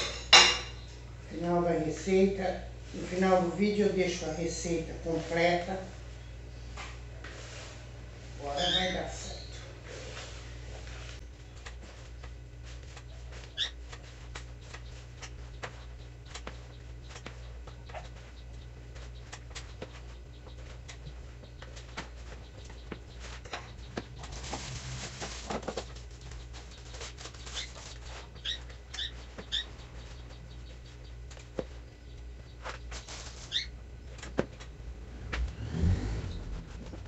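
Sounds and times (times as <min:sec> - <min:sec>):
steady low hum: 0:00.0 - 0:37.0
hands kneading dough: 0:06.7 - 0:37.0.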